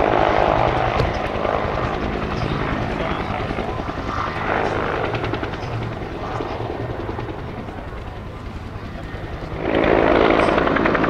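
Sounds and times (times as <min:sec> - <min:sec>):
helicopter rotor beating: 0:00.0 - 0:11.0
turbine engine whine: 0:00.0 - 0:11.0.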